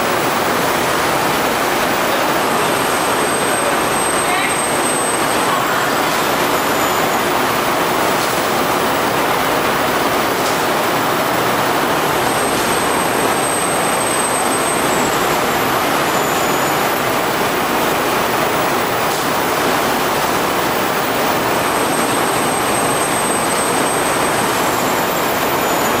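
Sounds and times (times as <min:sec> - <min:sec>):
steady machine noise: 0:00.0 - 0:26.0.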